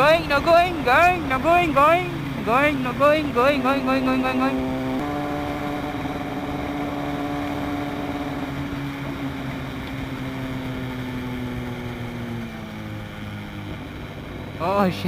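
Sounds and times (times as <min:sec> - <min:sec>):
motorcycle engine at high revs: 0:00.0 - 0:15.0
second motorcycle engine: 0:00.0 - 0:15.0.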